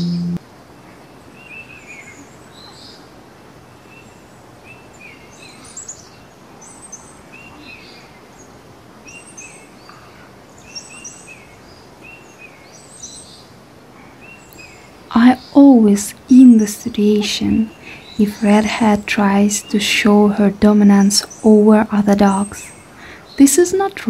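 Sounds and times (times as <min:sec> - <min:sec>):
forest ambience hiss: 0:00.0 - 0:20.0, 0:21.0 - 0:23.9
small birds chirping: 0:01.2 - 0:24.0.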